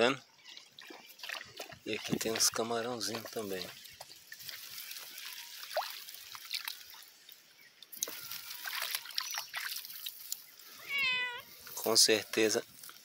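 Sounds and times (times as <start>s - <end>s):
water trickling and dripping: 0.4s - 12.1s.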